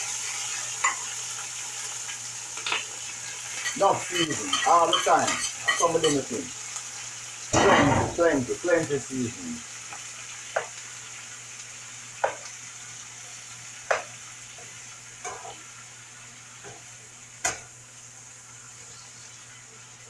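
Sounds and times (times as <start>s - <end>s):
fish sizzling in oil: 0.0s - 20.0s.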